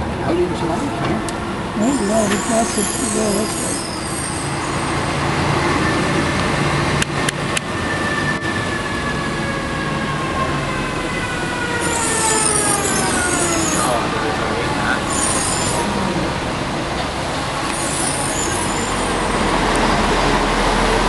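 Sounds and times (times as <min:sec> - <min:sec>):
bus engine: 0:00.0 - 0:21.0.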